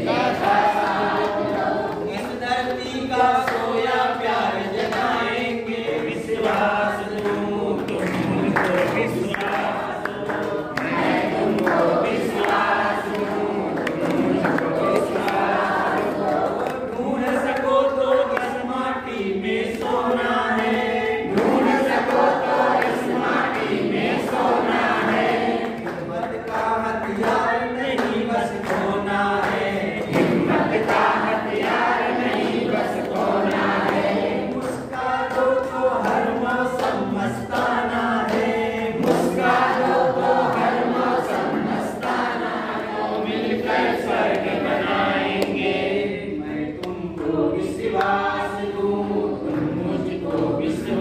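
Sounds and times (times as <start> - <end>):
group singing unaccompanied: 0.0 - 51.0
hand claps: 0.0 - 51.0.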